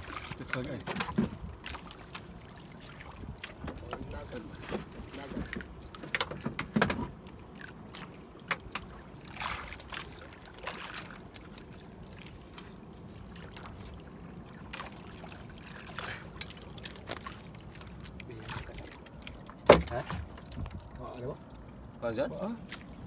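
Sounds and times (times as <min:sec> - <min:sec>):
water trickling and splashing: 0:00.0 - 0:23.0.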